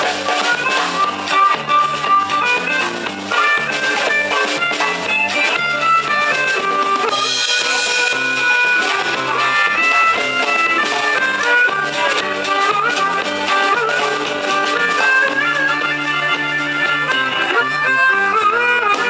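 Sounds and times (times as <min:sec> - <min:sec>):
instrumental band music: 0:00.0 - 0:19.0.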